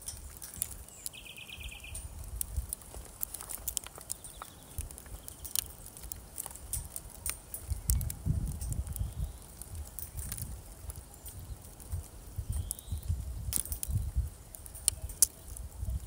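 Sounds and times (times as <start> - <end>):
wind gusting against microphone: 0.0 - 16.0.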